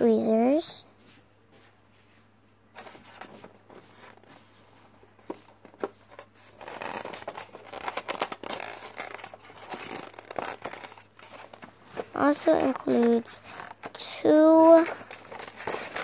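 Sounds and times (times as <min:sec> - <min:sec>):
scraping and rustling on styrofoam: 0:02.8 - 0:16.0.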